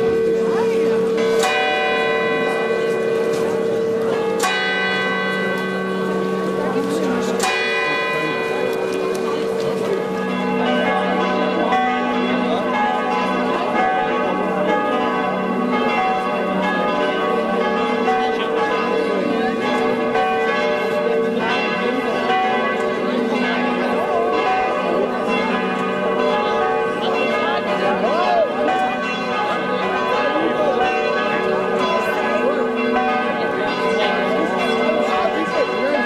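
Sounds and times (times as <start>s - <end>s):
church bells ringing: 0.0s - 36.0s
crowd chatter: 0.0s - 36.0s.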